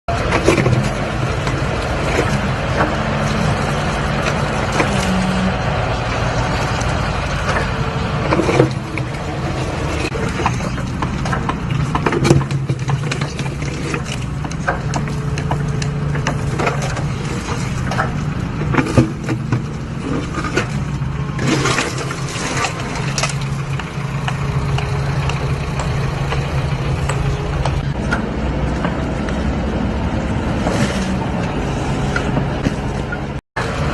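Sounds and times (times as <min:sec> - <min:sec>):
concrete cracking and knocking: 0:00.1 - 0:29.4
machine engine running: 0:00.1 - 0:33.9.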